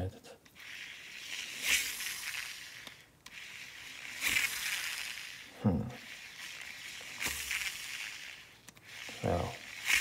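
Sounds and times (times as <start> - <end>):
fishing reel spool whirring: 0.4 - 10.0.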